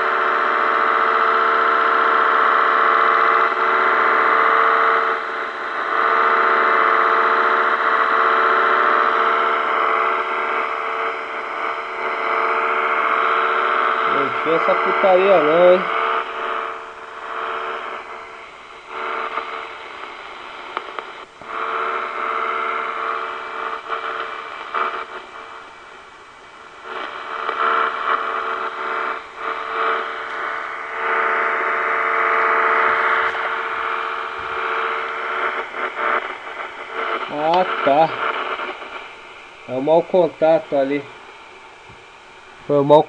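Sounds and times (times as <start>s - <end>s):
radio hiss: 0.0s - 43.0s
radio interference buzz: 0.0s - 43.0s.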